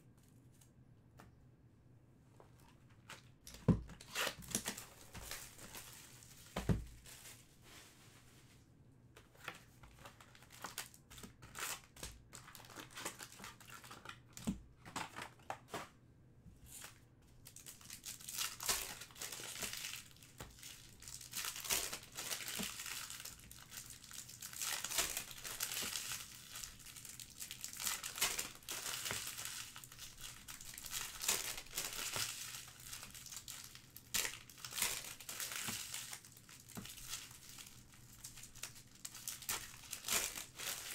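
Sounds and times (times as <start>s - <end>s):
foil wrappers crinkling and tearing: 3.9s - 7.5s, 9.4s - 15.8s, 16.8s - 40.9s.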